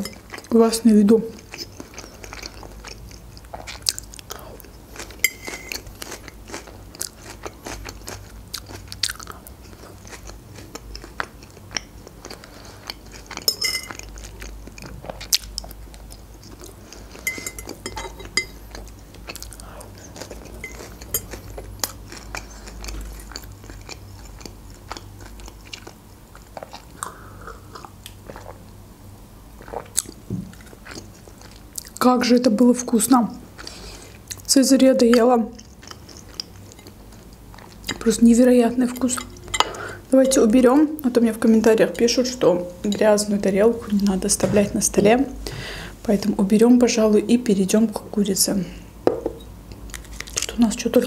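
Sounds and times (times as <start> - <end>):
chewing and crunching salad: 0.0 - 28.8, 29.6 - 32.1, 32.8 - 43.0, 49.7 - 51.0.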